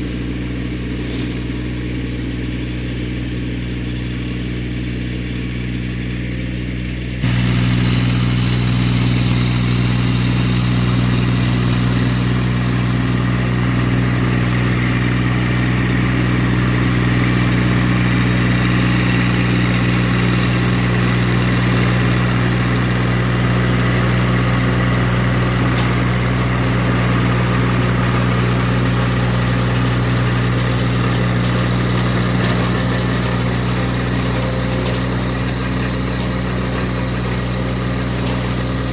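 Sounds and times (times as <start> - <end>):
diesel tractor engine running: 0.0 - 38.9
tiller churning ground: 0.0 - 38.9.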